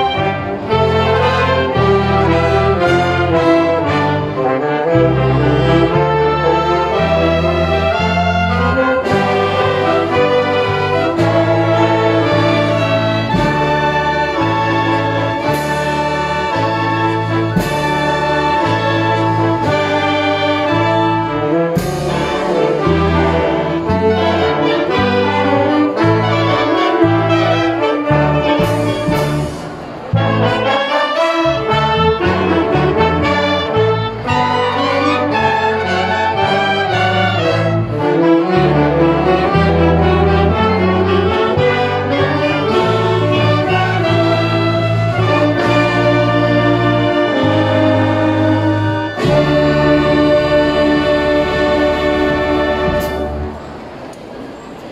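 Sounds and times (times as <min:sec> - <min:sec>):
concert band playing: 0:00.0 - 0:54.9.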